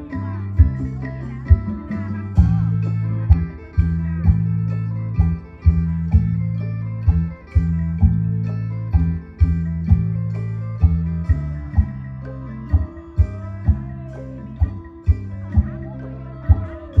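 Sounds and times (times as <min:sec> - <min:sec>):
plucked string melody with bass: 0:00.0 - 0:17.0.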